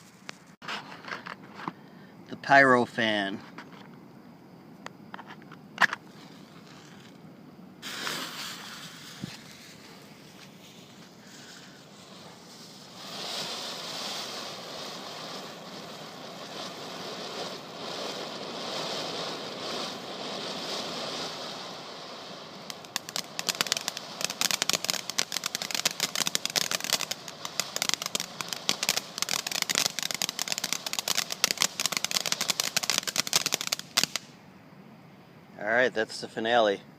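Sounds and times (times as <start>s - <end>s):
firework fountain hissing and crackling: 0.0s - 3.0s, 4.5s - 34.4s.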